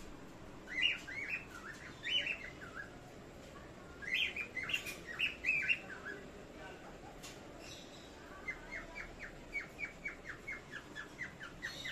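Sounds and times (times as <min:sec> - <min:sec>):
parrots chirping: 0:00.6 - 0:03.1, 0:03.9 - 0:06.5, 0:07.2 - 0:11.9.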